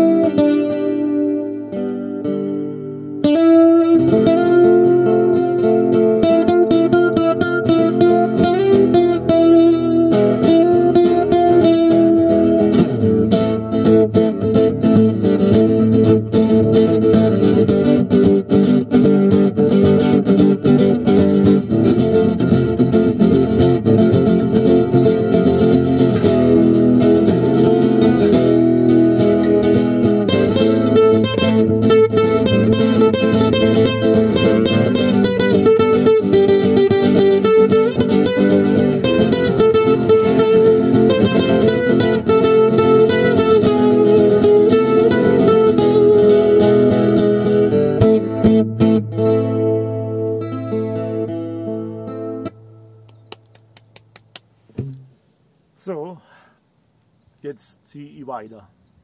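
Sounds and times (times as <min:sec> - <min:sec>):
guitar music: 0:00.0 - 0:55.2.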